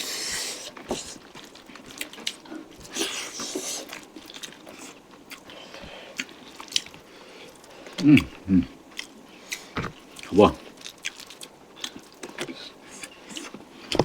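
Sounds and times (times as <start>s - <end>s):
chewing and biting: 0.0s - 14.0s.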